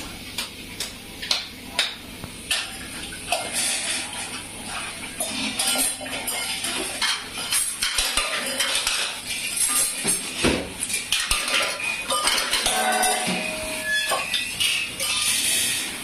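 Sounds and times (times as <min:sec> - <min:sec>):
metal kitchenware clattering: 0:02.5 - 0:16.0.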